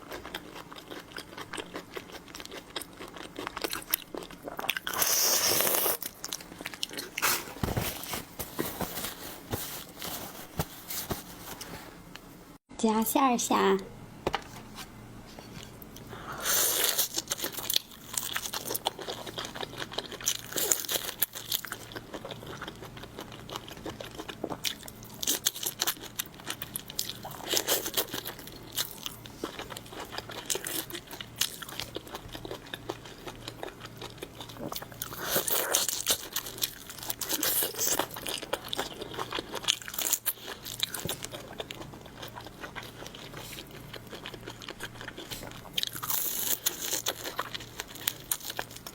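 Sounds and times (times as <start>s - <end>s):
crunching and chewing shrimp: 0.0s - 10.1s, 15.6s - 48.9s.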